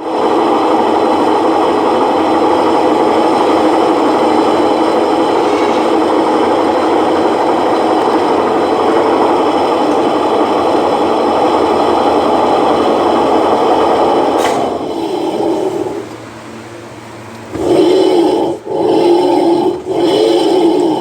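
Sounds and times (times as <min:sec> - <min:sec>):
washing machine whirring: 0:00.0 - 0:21.0.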